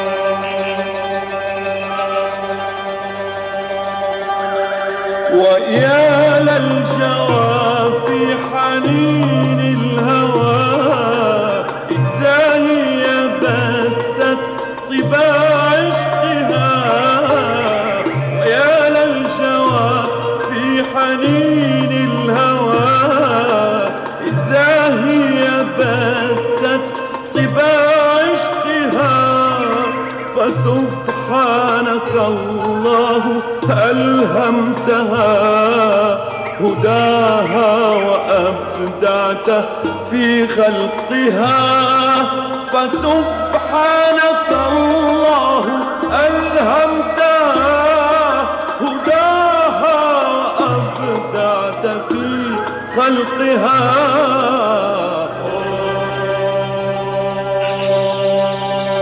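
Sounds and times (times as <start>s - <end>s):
man singing melismatic line: 0.0s - 59.0s
ornamented devotional melody: 0.0s - 59.0s.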